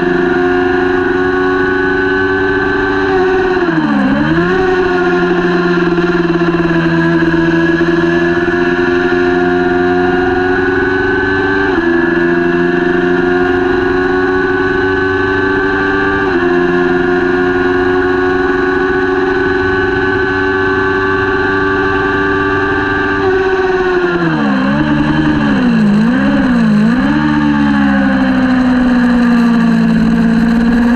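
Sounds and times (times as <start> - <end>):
motorcycle engine revving high: 0.0 - 30.9.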